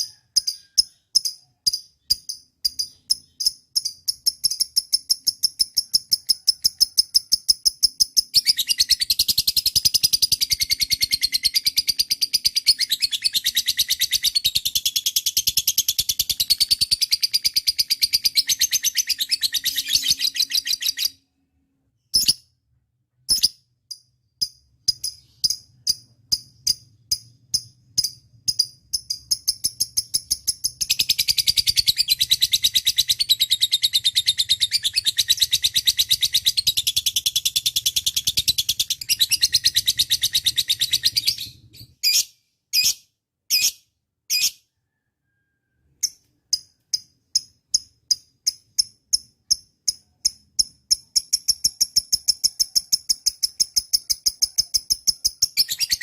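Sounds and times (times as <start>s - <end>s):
lovebird chirping and chattering: 0.0s - 21.2s, 22.0s - 22.5s, 23.3s - 44.8s, 46.0s - 56.0s.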